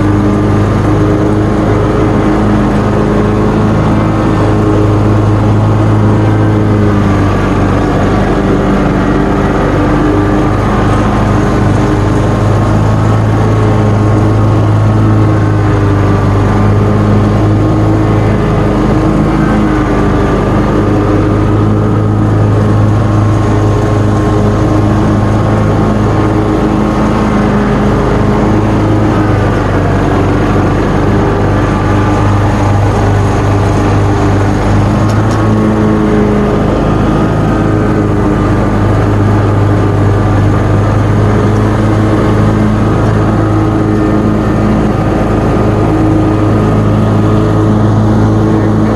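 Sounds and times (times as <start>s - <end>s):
lawn mower engine cutting grass: 0.0s - 48.9s.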